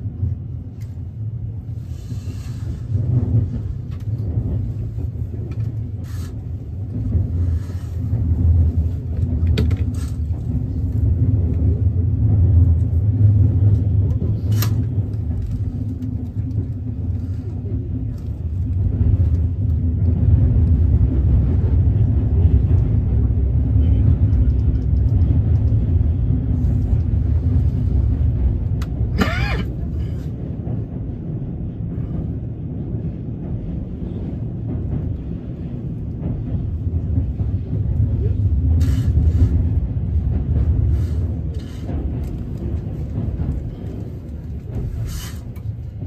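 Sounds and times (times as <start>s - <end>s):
train rumbling along track: 0.0s - 46.0s.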